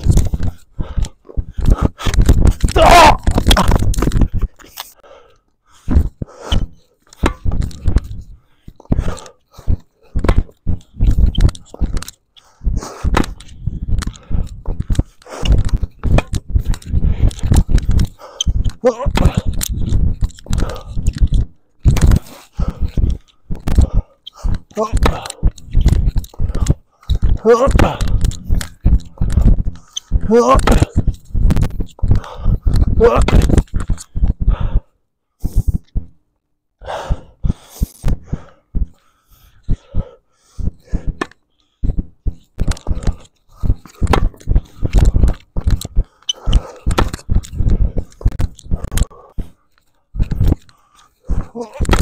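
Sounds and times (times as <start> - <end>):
person breathing hard: 0.0 - 2.7, 4.0 - 35.9, 36.8 - 52.0.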